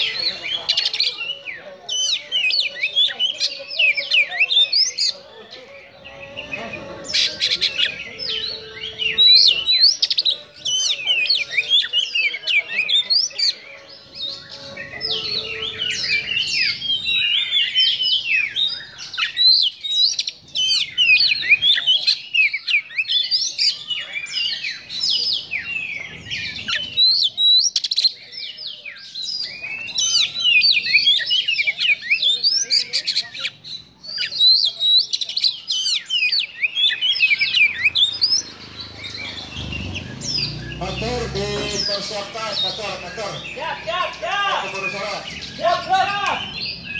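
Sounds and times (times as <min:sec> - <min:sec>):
bird singing: 0:00.0 - 0:46.9.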